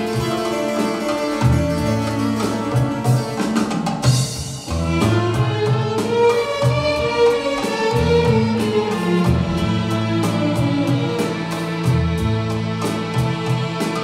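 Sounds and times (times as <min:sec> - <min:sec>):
instrumental melodic improvisation: 0:00.0 - 0:14.0
low drum beats: 0:01.3 - 0:14.0.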